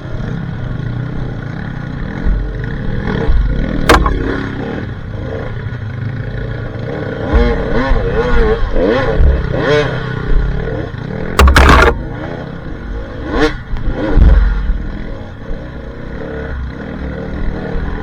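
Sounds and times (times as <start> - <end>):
dirt bike engine revving: 0.7 - 18.0.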